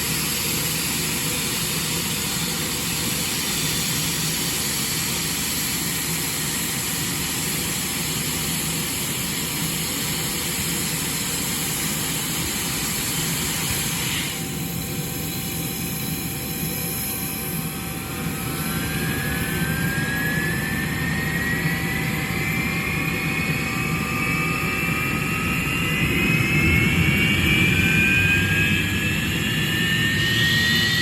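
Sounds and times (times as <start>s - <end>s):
jet engines running with high whine: 0.0s - 31.0s.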